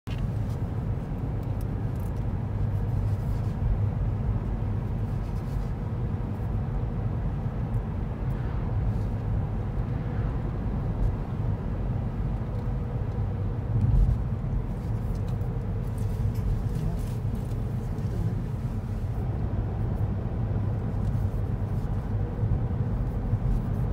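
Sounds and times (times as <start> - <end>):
car driving interior rumble: 0.1 - 23.9.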